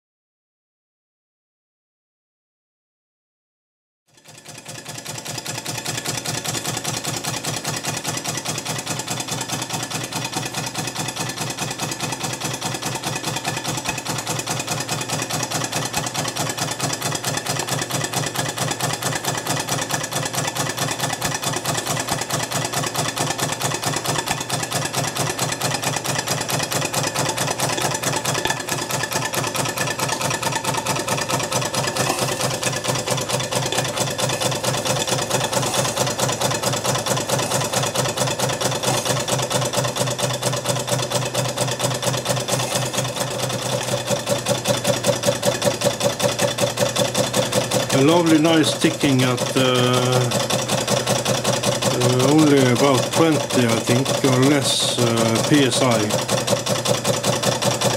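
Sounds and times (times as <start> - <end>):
steam engine ticking beat: 5.7 - 57.9.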